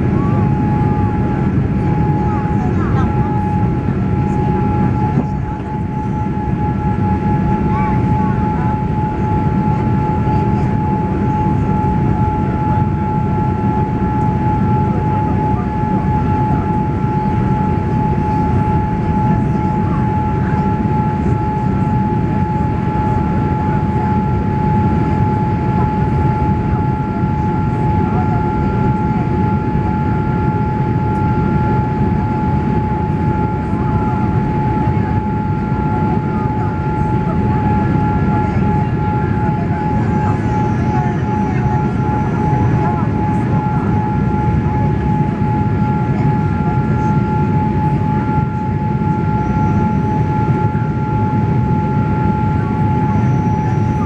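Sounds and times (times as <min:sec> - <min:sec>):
airplane cabin engine roar: 0:00.0 - 0:54.0.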